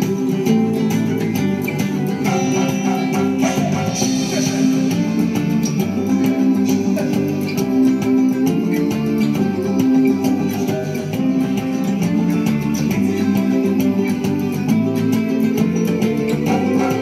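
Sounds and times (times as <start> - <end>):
instrumental music with beat: 0.0 - 17.0.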